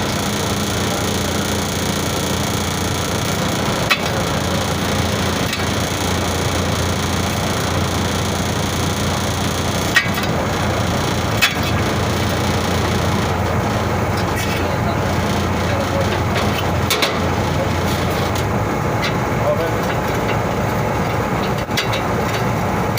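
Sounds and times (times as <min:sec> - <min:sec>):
loud steady drone: 0:00.0 - 0:22.9.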